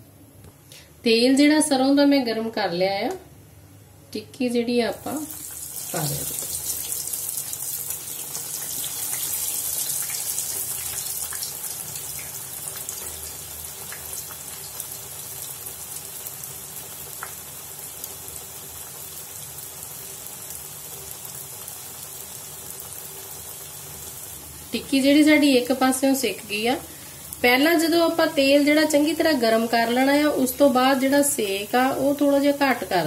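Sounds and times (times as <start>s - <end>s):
deep-frying sizzle with pops: 5.0s - 33.0s.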